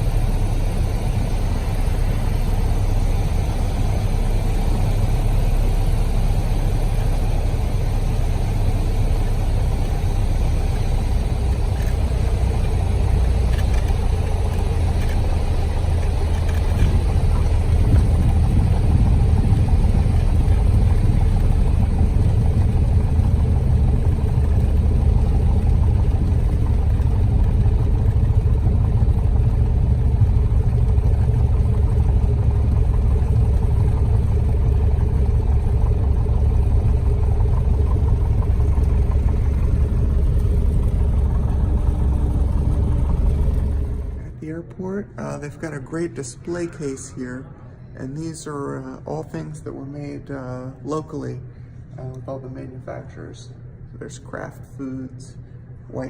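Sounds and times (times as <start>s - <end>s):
vehicle engine droning: 0.0s - 53.5s.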